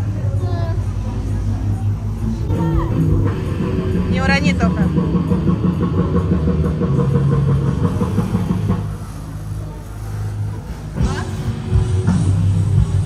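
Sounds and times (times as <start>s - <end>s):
ride machinery humming: 0.0s - 13.0s.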